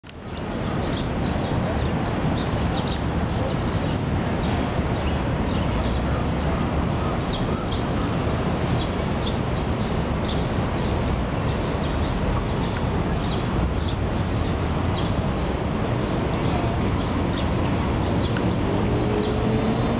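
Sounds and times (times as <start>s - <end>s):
small birds chirping: 0.8s - 19.9s.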